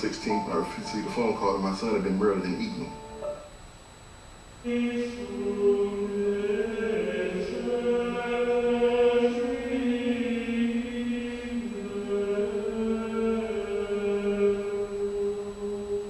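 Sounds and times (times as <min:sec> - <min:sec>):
recorded chant over speakers: 0:00.0 - 0:03.4, 0:04.6 - 0:16.0.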